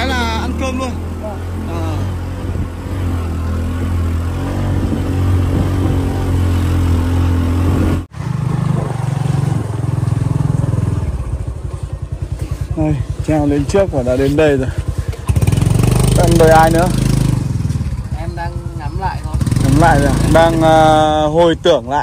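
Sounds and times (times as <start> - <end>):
motorbike engine running: 0.0 - 22.0.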